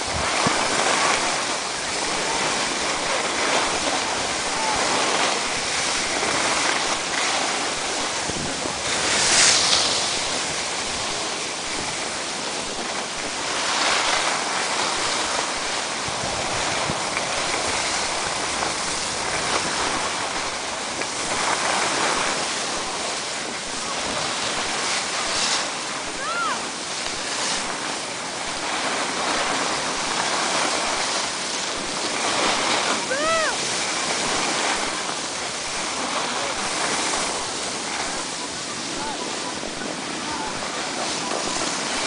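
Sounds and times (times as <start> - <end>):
skis sliding over packed snow: 0.0 - 42.0
wind on microphone: 0.0 - 42.0.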